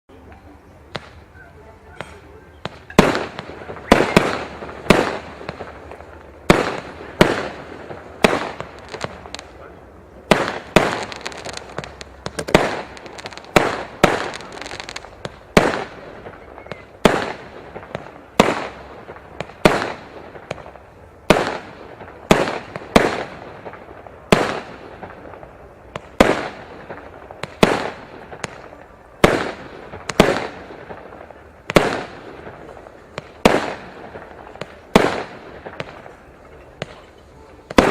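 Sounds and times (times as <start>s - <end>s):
firework bangs with echo: 1.9s - 37.9s.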